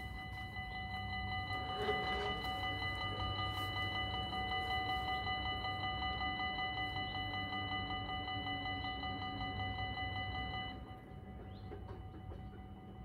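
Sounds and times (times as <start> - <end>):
level crossing warning bells: 0.0 - 13.0.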